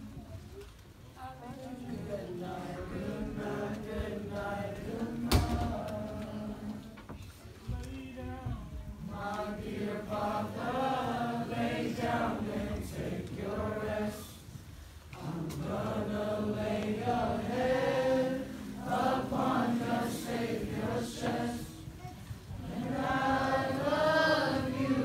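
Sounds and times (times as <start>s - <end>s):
choir singing: 1.9s - 7.2s, 9.0s - 25.0s.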